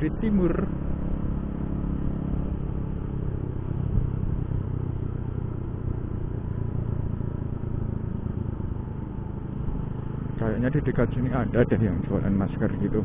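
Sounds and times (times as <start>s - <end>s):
motorcycle engine cruising: 0.0s - 13.0s
road and traffic noise: 0.0s - 13.0s.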